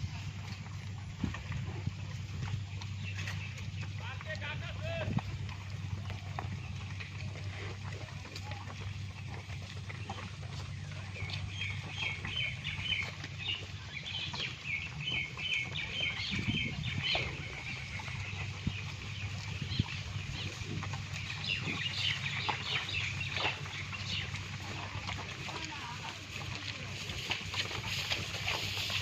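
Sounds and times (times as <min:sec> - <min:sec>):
birds chirping and chattering: 0:00.0 - 0:29.0.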